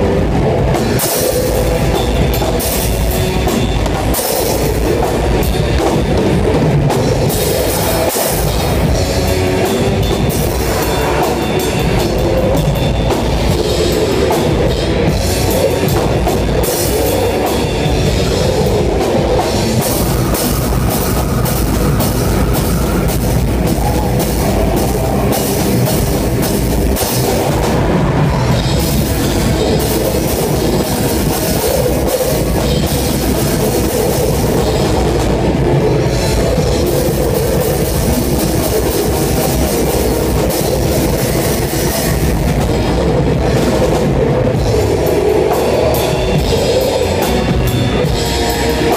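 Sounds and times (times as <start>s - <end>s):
drums and cymbals struck hard: 0.0s - 48.9s
heavy metal band playing: 0.0s - 48.9s.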